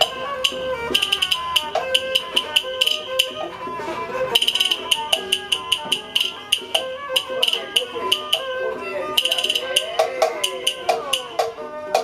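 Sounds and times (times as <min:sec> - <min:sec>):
opera melody: 0:00.0 - 0:12.0
sharp percussion clacks: 0:00.0 - 0:12.0.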